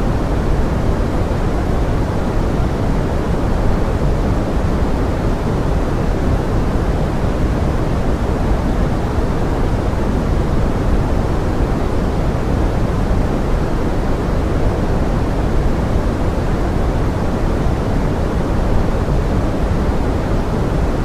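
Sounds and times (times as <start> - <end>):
deep pink noise hiss: 0.0 - 21.0.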